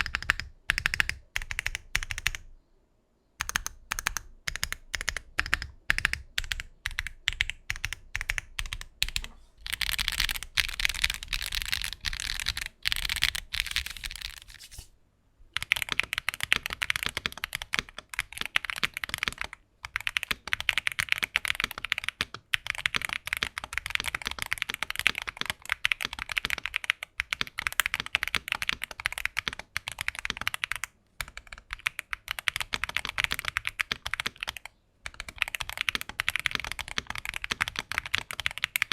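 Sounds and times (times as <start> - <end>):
mechanical keyboard typing: 0.0 - 2.5, 3.4 - 14.8, 15.6 - 38.9.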